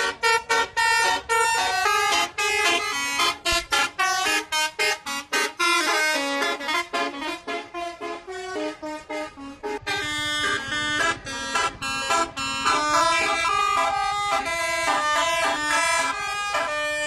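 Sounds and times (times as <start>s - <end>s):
bus engine running: 0.0s - 17.0s
bus multi-tone horn playing a tune: 0.0s - 17.0s.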